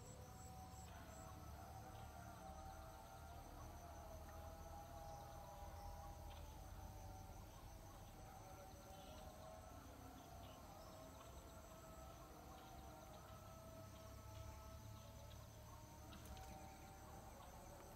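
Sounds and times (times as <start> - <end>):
insect trills: 0.0 - 17.9.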